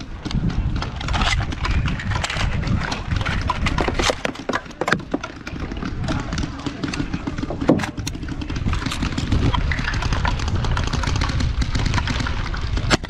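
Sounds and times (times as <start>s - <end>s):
footsteps on rough ground: 0.0s - 13.0s
gear knocking: 0.0s - 13.0s.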